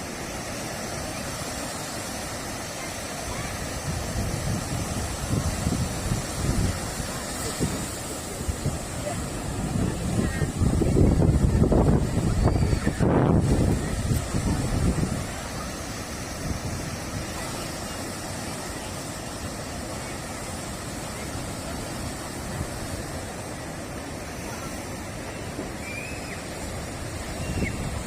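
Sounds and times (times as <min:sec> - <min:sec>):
surf breaking on a beach: 0:00.0 - 0:28.0
wind rumbling on microphone: 0:00.0 - 0:28.0.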